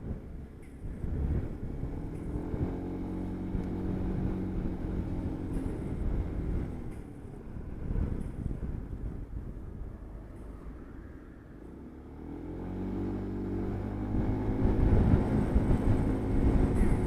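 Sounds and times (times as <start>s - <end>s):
wind buffeting microphone: 0.0s - 11.6s, 12.2s - 17.0s
vehicle engine hum: 0.0s - 17.0s.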